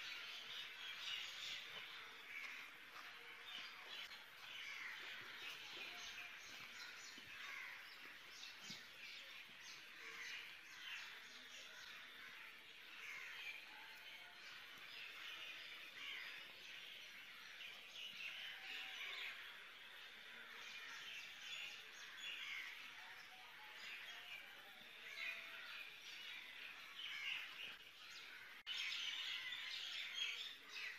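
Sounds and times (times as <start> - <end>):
faint birds chirping: 0.0 - 30.9.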